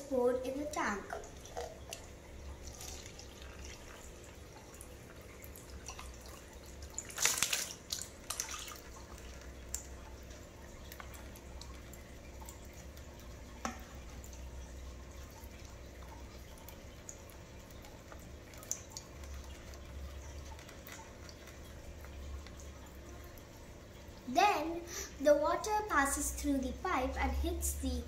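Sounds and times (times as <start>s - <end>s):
water trickling into plastic tub: 0.1s - 27.7s.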